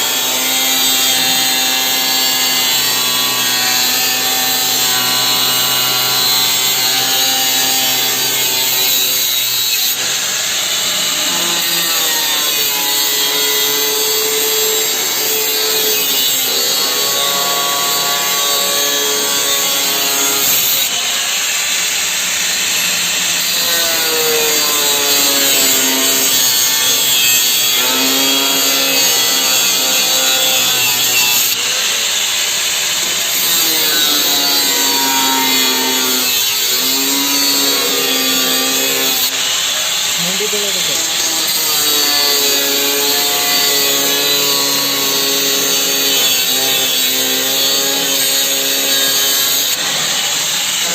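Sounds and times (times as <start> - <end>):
angle grinder cutting: 0.0 - 50.9.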